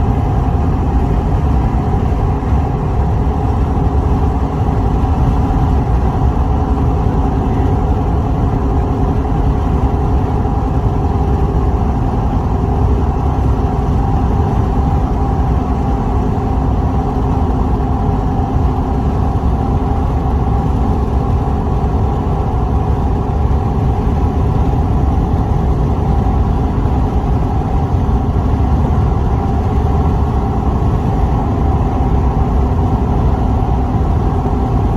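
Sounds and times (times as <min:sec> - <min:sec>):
deep rumble: 0:00.0 - 0:34.9
steady wind: 0:00.0 - 0:34.9.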